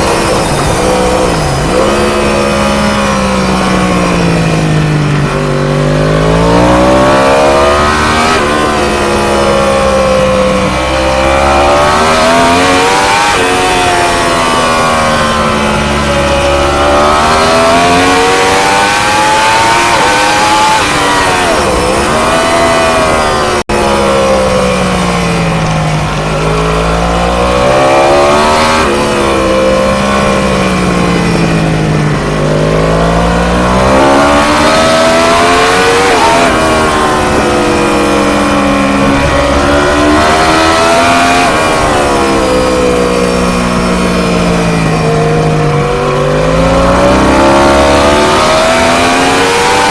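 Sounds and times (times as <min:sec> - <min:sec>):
race motorcycle engine revving: 0:00.0 - 0:49.9.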